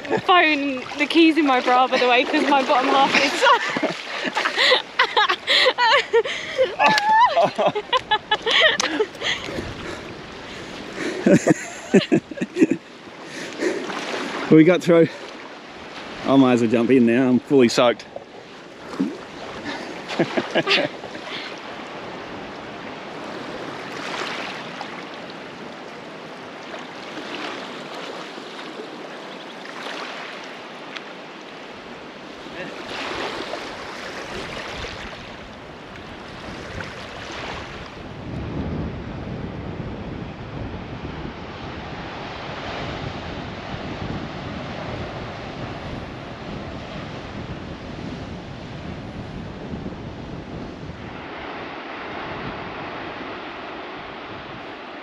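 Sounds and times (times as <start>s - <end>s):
wind buffeting microphone: 0.0s - 26.6s, 31.8s - 55.0s
ocean surf on a beach: 0.0s - 55.0s
wind: 0.0s - 55.0s.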